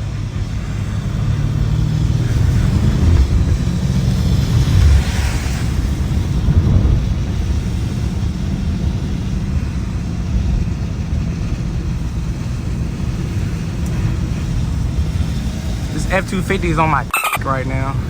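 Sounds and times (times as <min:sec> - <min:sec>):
low rumble of car engine: 0:00.0 - 0:18.0.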